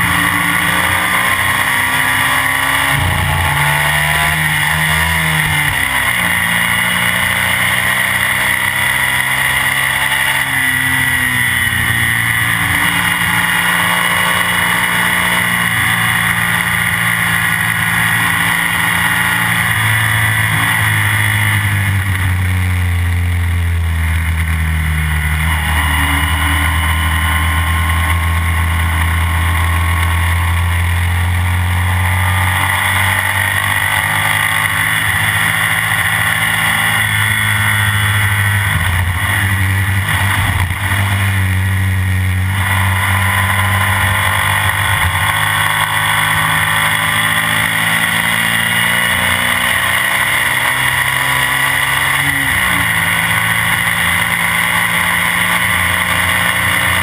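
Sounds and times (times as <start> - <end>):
racing engine revving: 0.0 - 57.0.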